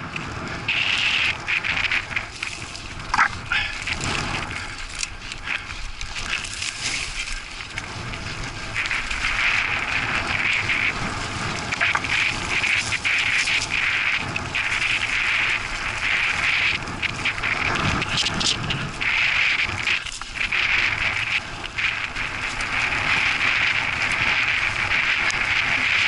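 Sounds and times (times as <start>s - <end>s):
bike knocking and rattling: 0.0s - 26.0s
bike tyres on chalk and grit: 0.0s - 26.0s.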